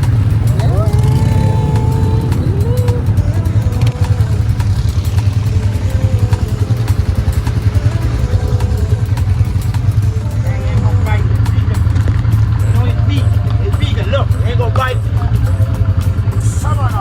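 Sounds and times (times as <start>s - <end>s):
atv engine rumbling: 0.0s - 17.0s
sharp ticks: 0.0s - 17.0s.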